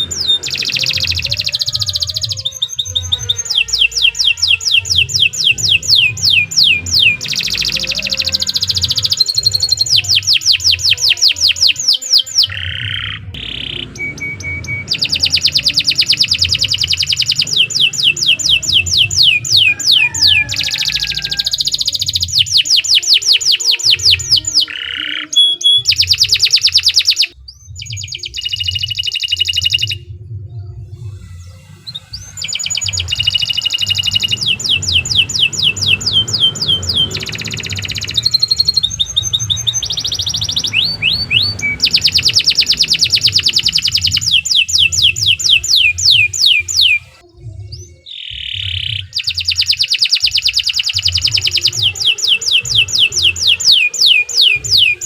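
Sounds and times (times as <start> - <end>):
canary singing trills: 0.0 - 30.2, 30.9 - 55.0.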